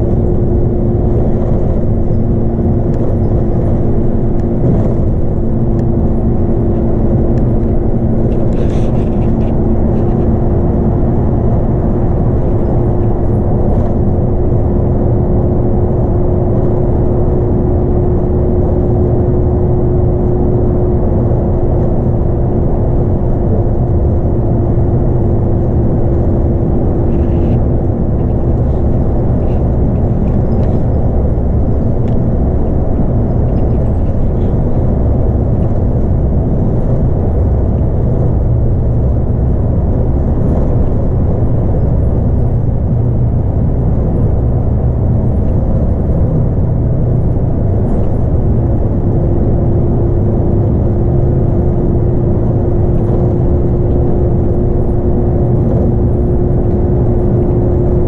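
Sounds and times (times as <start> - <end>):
bus engine and tyre rumble: 0.0 - 58.0
steady whine: 0.0 - 58.0.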